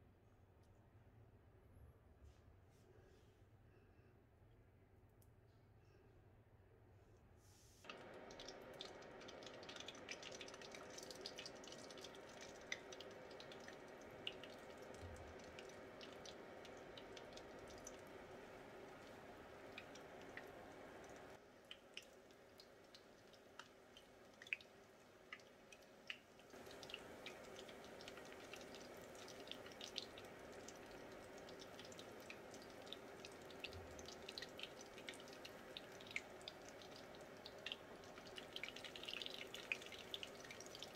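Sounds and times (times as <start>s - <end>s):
hot oil sizzling and popping: 7.9s - 40.9s.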